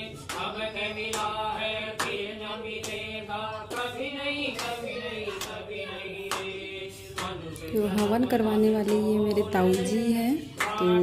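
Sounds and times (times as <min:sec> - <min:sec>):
voices chanting a devotional mantra: 0:00.0 - 0:11.0
sharp hand claps: 0:00.1 - 0:06.6, 0:07.2 - 0:11.0.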